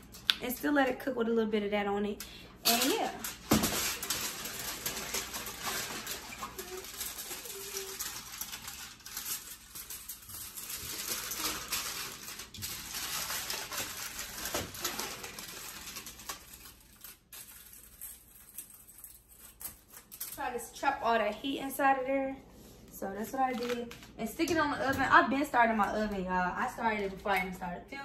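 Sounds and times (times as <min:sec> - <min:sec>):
aluminium foil crinkling: 0:01.8 - 0:22.2, 0:22.8 - 0:27.7.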